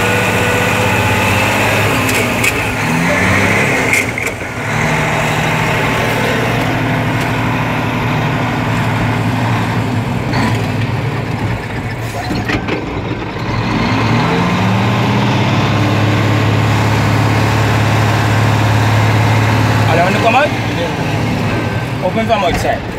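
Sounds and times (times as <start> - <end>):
truck diesel engine running: 0.0 - 22.9.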